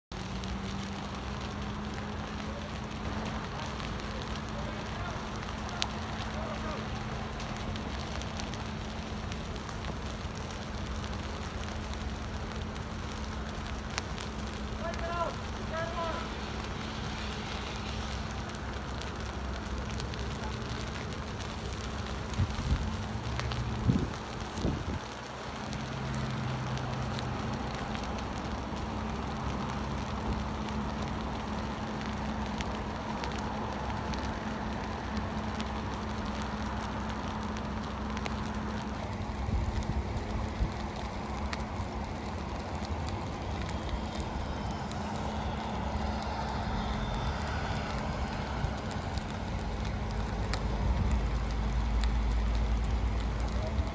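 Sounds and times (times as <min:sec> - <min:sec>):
fire crackles: 0:00.0 - 0:53.9
grass fire hissing: 0:00.1 - 0:53.9
low steady hum: 0:00.1 - 0:53.9.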